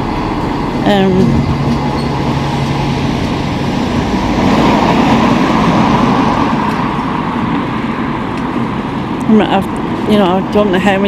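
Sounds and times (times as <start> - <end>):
vehicle passing close by: 0.0 - 10.1
road traffic noise: 0.0 - 11.0.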